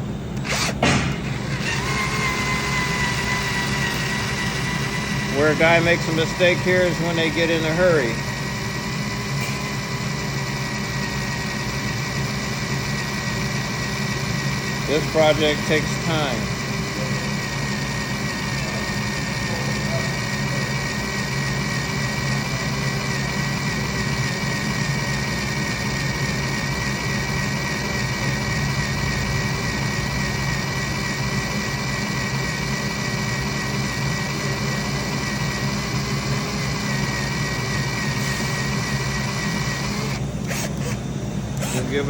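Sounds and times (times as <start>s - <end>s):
electric drill whining: 0.0s - 42.0s.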